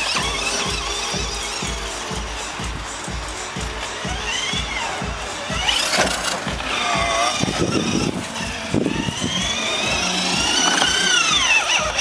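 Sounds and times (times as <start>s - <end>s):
toy car electric motor whining: 0.0s - 12.0s.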